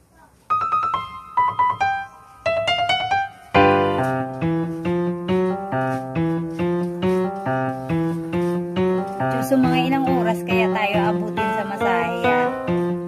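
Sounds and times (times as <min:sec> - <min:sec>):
high piano-like notes: 0:00.5 - 0:13.0.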